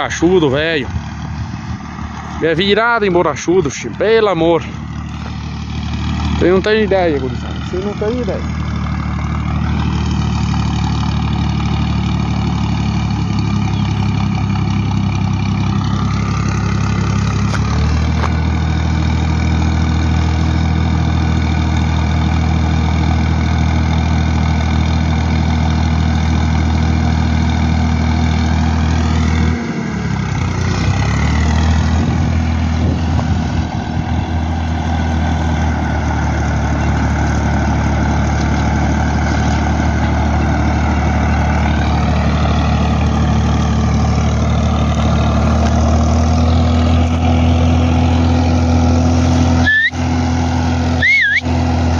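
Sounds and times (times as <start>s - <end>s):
tractor engine running under load: 0.0s - 51.9s.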